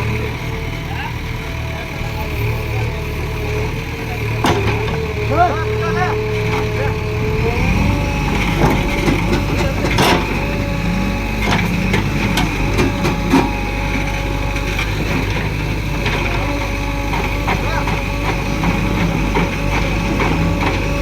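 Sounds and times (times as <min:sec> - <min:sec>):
diesel machinery running: 0:00.0 - 0:21.0.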